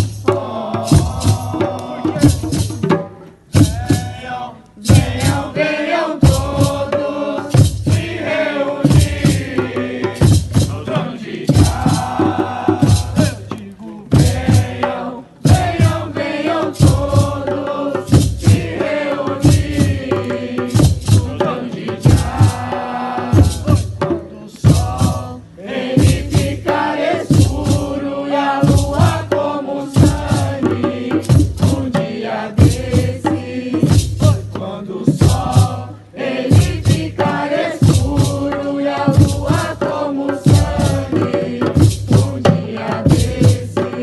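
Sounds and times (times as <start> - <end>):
group chanting: 0.0 - 2.7, 3.5 - 44.0
hand drumming with deep thump: 6.2 - 44.0.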